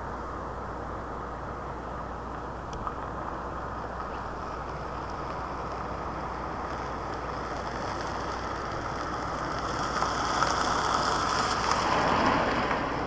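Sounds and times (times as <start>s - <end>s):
distant jet engines rushing: 0.0s - 13.0s.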